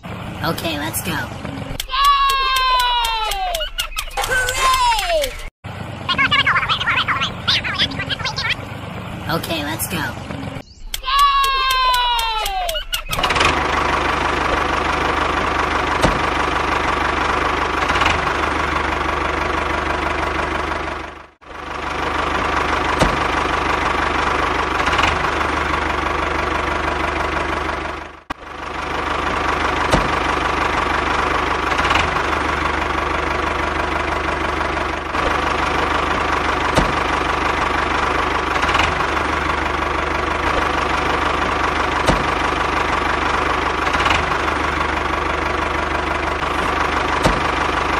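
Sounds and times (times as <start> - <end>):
tractor motor droning: 0.0 - 47.9.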